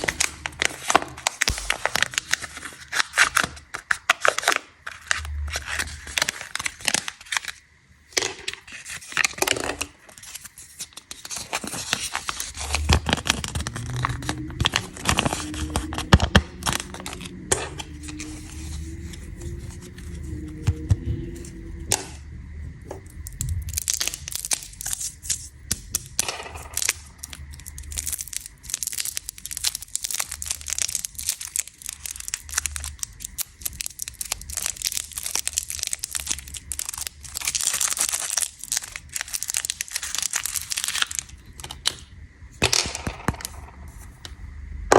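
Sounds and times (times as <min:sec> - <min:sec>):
wrappers crinkling and tearing: 0:00.0 - 0:07.6, 0:08.2 - 0:22.1, 0:23.2 - 0:42.0.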